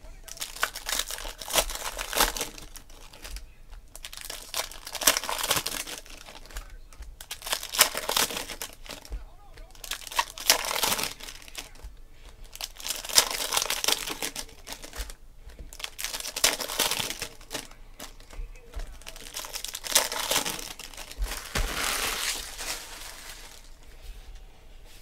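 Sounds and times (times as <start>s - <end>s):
foil wrappers crinkling and tearing: 0.0s - 24.0s
cards handled and stacked: 0.0s - 24.4s.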